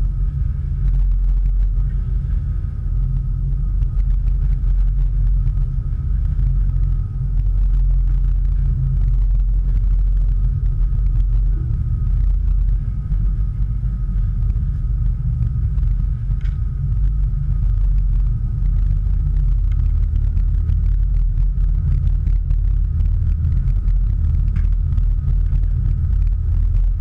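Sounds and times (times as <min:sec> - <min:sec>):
faint steady whine: 0:00.0 - 0:27.0.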